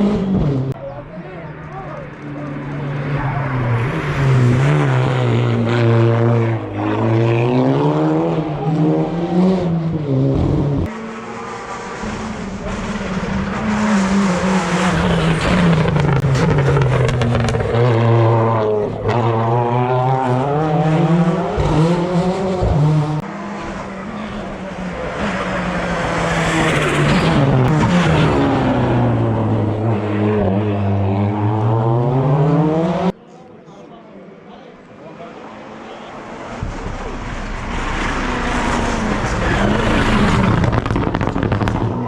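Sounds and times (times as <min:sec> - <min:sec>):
race car engine revving: 0:00.0 - 0:33.2, 0:35.2 - 0:42.0.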